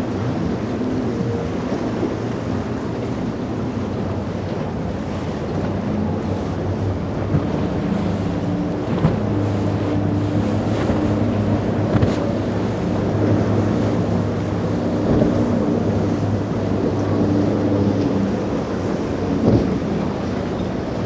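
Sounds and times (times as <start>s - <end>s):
boat engines running: 0.0s - 21.0s
waves and surf: 0.0s - 21.0s
wind buffeting microphone: 0.0s - 21.0s.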